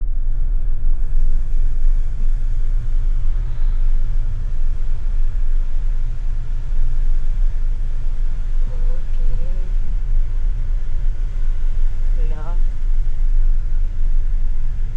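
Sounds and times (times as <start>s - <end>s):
moving car rumble: 0.0s - 14.9s
road and wind noise: 0.0s - 14.9s.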